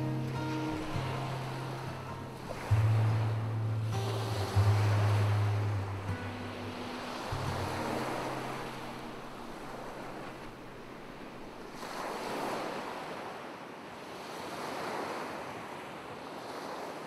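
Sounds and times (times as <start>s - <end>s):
waves washing on shore: 0.0s - 17.0s.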